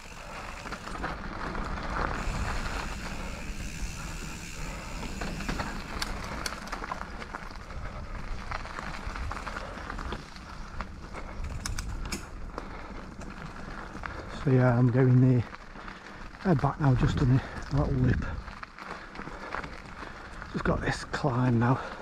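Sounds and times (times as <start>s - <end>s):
bike rattles and clicks: 0.0s - 22.0s
bike tyres rumbling on trail: 0.0s - 22.0s.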